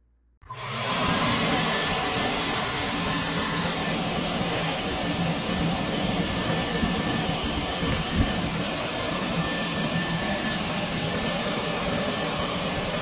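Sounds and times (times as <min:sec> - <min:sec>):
vacuum running: 0:00.4 - 0:13.0.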